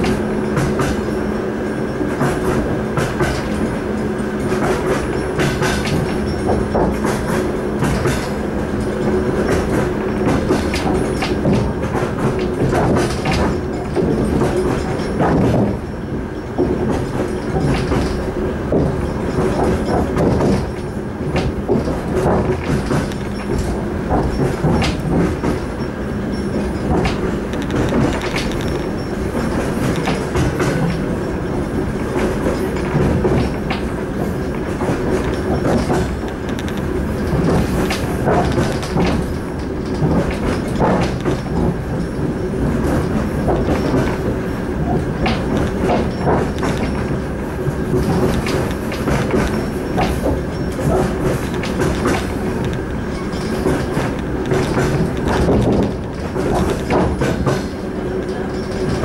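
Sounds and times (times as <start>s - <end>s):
train wheels rumbling on rails: 0.0s - 59.0s
wheels clacking over rail joints: 0.0s - 59.0s.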